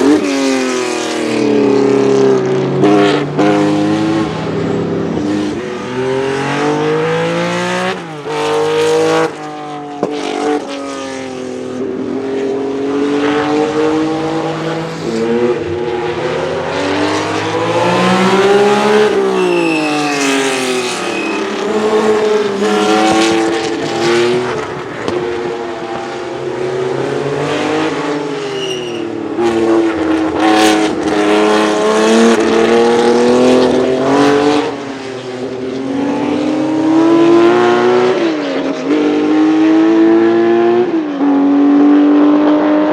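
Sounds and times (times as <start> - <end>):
race car engine at high revs: 0.0 - 42.9.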